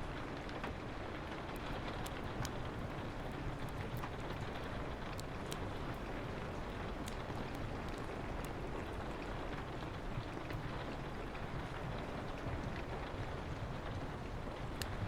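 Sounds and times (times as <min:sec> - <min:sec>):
steady rain falling: 0:00.0 - 0:15.0
wood fire crackling and popping: 0:00.1 - 0:15.0.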